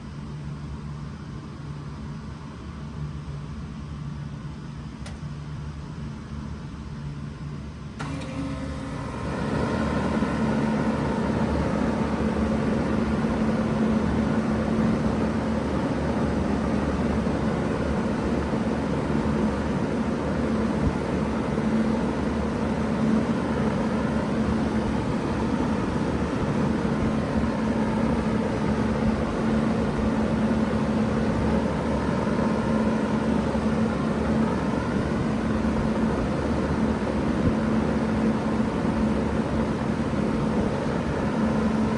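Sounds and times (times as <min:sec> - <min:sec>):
fan air rushing: 0:08.0 - 0:41.9
heat pump hum: 0:08.0 - 0:41.9.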